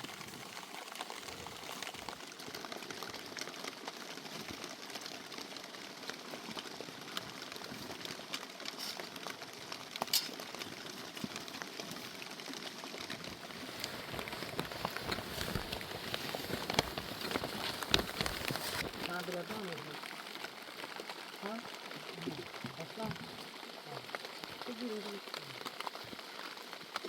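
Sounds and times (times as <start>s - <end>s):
raindrop ticks: 0.0s - 27.0s
steady rain patter: 0.0s - 27.0s.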